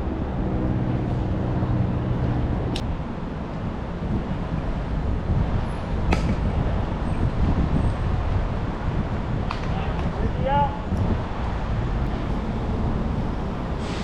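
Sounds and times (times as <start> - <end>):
vehicle engine hum: 0.0 - 9.2, 11.0 - 14.0
low wind rumble: 0.0 - 14.0.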